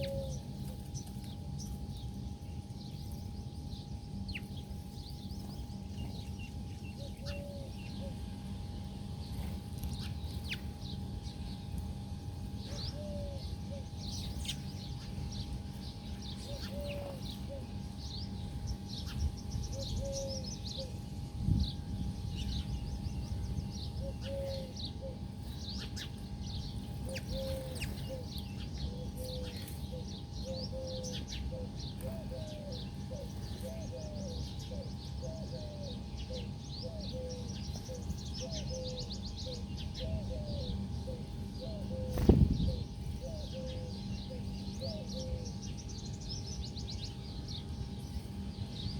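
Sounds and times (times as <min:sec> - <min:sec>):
steady low rumble: 0:00.0 - 0:35.2, 0:35.8 - 0:48.9
birds chirping and twittering: 0:00.0 - 0:48.9
faint hum: 0:00.0 - 0:48.9.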